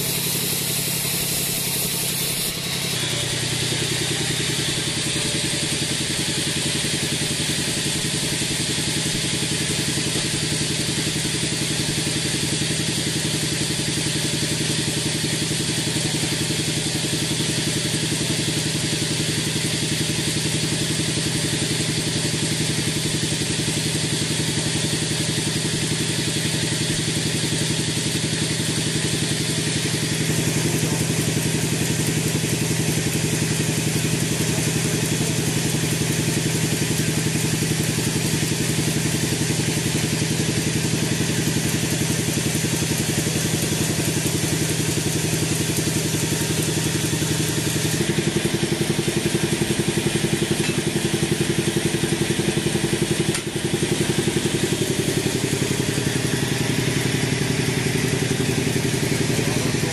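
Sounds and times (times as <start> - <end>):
band sawmill cutting a log: 0.0 - 59.9.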